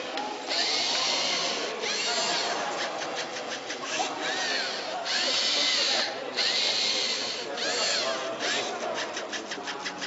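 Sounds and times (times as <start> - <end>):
quick clicks: 0.1 - 10.0
small electric motors whining: 0.4 - 10.0.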